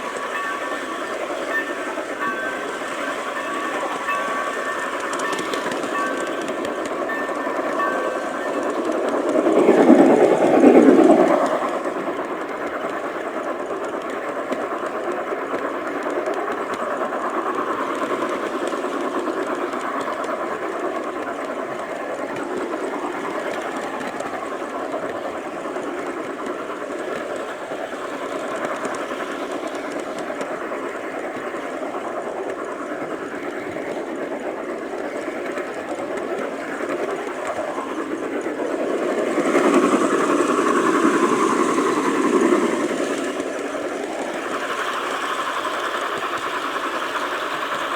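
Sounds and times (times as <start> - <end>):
model train wheels rattling: 0.0 - 47.9.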